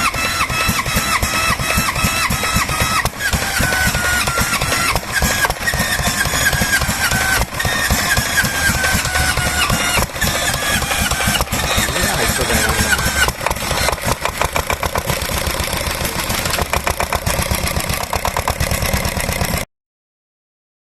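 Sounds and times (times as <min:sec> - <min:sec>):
diesel engine starting: 0:00.0 - 0:19.7.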